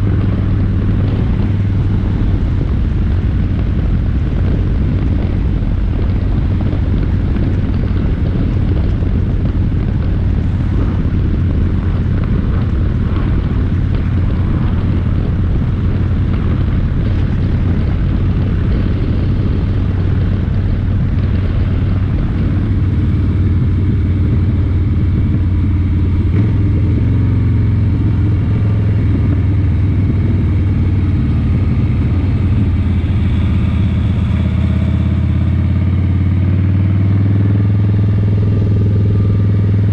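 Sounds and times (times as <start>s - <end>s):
engine running low hum: 0.0s - 39.9s.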